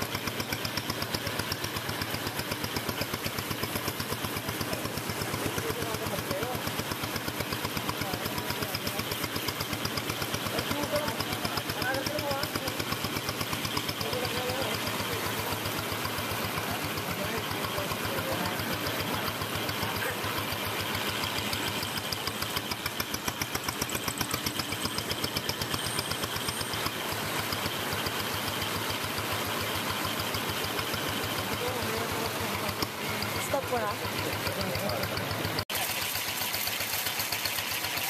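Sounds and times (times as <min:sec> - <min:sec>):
small motorcycle engine running: 0:00.0 - 0:38.0.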